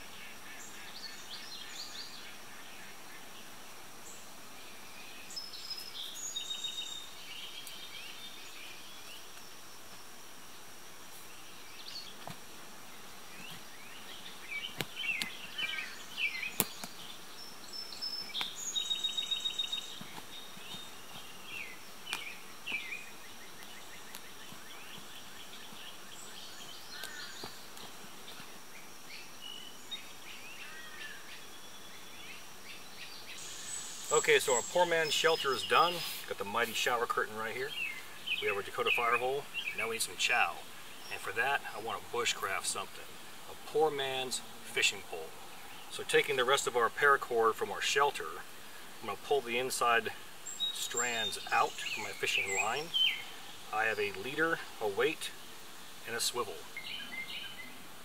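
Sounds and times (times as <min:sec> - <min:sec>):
high insect drone: 0:00.0 - 0:47.8
songbirds chirping and trilling: 0:00.0 - 0:58.0.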